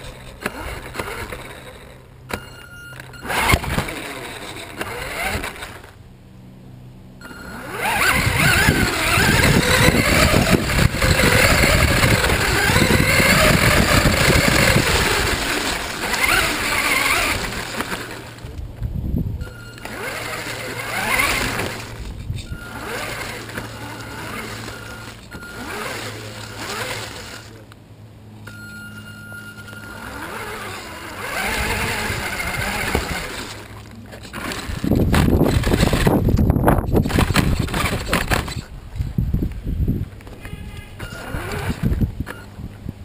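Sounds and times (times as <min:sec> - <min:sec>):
electric motor whining: 0:00.0 - 0:06.0, 0:07.2 - 0:18.7, 0:19.4 - 0:27.7, 0:29.6 - 0:38.7, 0:41.0 - 0:42.4
rattling tyre and chassis noise: 0:00.0 - 0:43.0.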